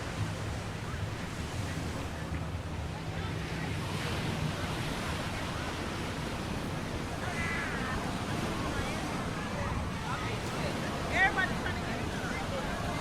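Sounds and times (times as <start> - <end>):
faint voices talking: 0.0 - 13.0
ocean surf washing: 0.0 - 13.0.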